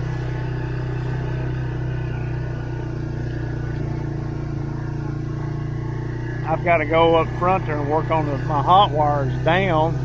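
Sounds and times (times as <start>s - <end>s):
farm vehicle engine droning: 0.0s - 10.0s.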